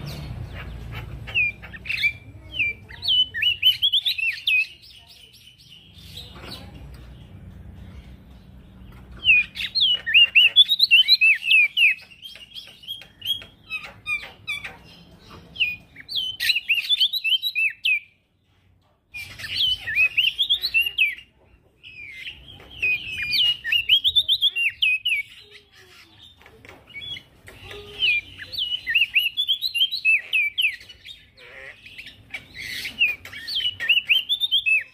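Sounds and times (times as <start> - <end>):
bird whistling song: 0.0 - 6.4, 9.1 - 14.7, 15.5 - 18.1, 19.2 - 25.5, 26.9 - 31.3, 32.0 - 34.9.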